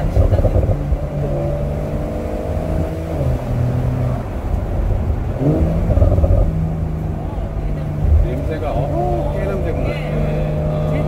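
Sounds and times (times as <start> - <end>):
car engine running steadily: 0.0 - 11.0
road noise: 0.0 - 11.0.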